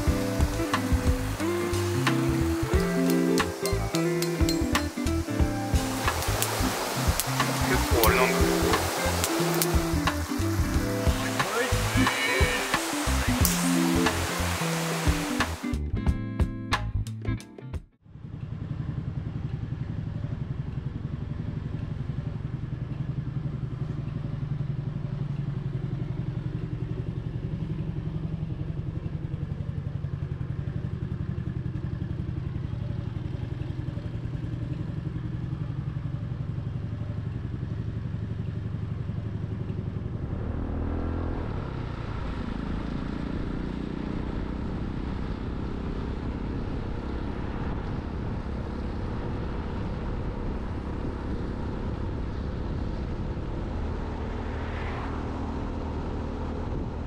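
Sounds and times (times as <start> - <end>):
motorcycle engine running: 0.0 - 16.8, 18.0 - 57.0.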